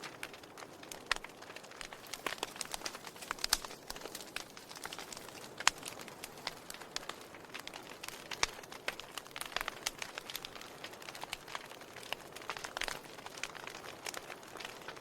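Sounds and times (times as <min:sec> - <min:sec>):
soft steady hiss: 0:00.0 - 0:15.0
wood fire crackling and popping: 0:00.0 - 0:15.0.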